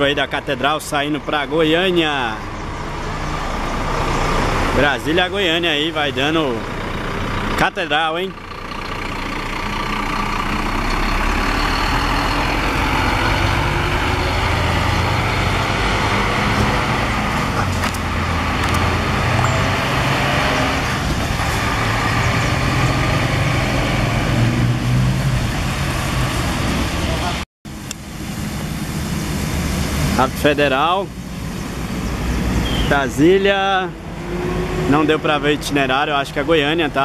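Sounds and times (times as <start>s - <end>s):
bus diesel engine driving past: 0.0s - 37.0s
road noise: 0.0s - 37.0s.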